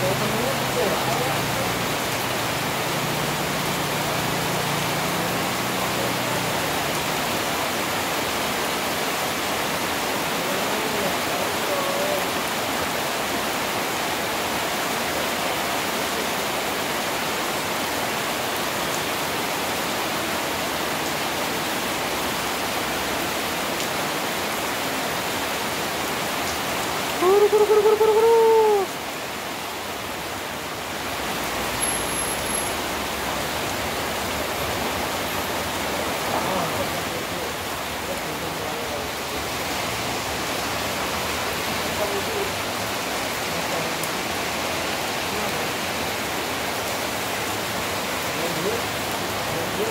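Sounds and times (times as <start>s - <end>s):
heavy rain hiss: 0.0s - 49.9s.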